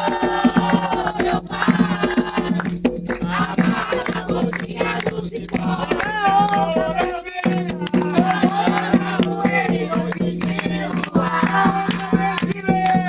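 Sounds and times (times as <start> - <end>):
people singing ritual song: 0.0 - 13.0
quick steady percussion: 0.0 - 13.0.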